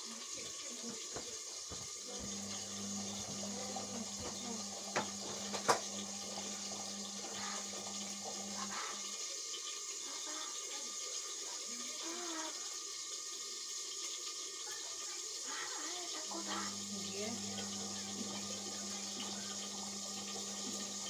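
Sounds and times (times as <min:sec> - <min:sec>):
water rushing in washing machine: 0:00.0 - 0:21.0.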